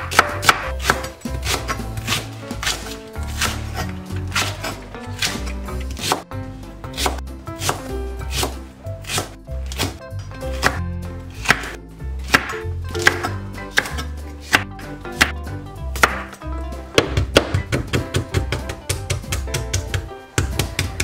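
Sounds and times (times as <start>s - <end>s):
knife chopping on cutting board: 0.0s - 6.3s, 6.9s - 15.4s, 16.0s - 21.0s.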